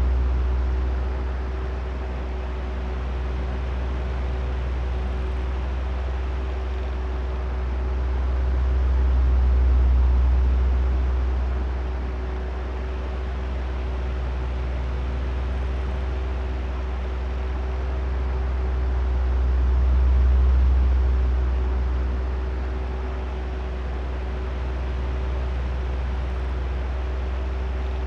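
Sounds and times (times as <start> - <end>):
electric fan running: 0.0 - 28.0.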